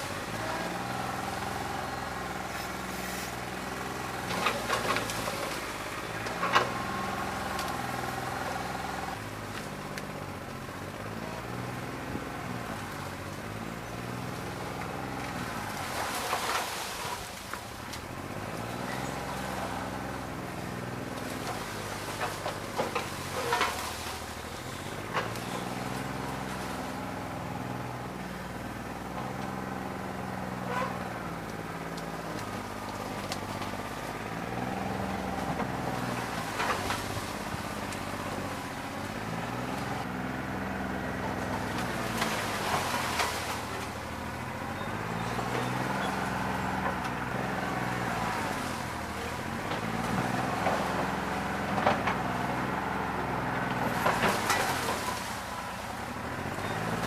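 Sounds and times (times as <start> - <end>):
diesel tractor engine running unevenly: 0.0 - 57.0.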